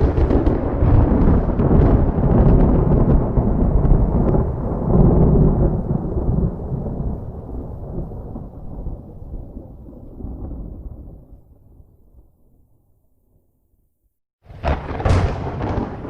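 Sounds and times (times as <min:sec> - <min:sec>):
lightning crackles: 0:00.0 - 0:12.2, 0:14.4 - 0:16.0
thunder rumbling: 0:00.0 - 0:12.6, 0:14.5 - 0:16.0.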